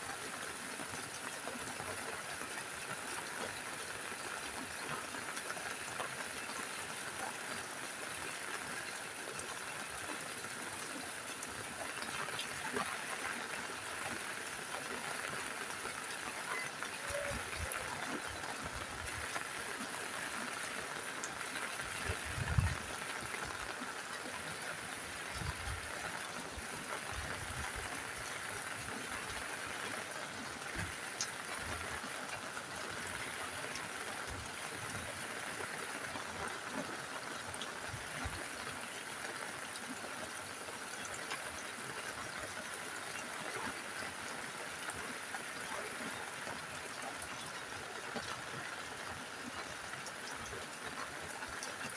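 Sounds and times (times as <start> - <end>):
rain on a roof: 0.0 - 51.9.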